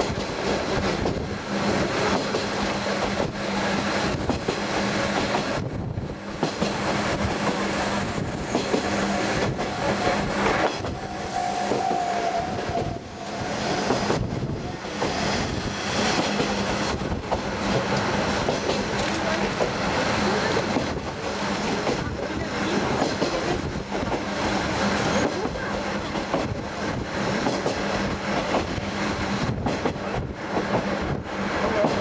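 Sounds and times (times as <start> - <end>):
rail joint clicks: 0.0 - 19.8, 20.4 - 32.0
railcar engine drone: 0.0 - 32.0
rushing wind: 0.0 - 32.0
track noise: 0.0 - 32.0.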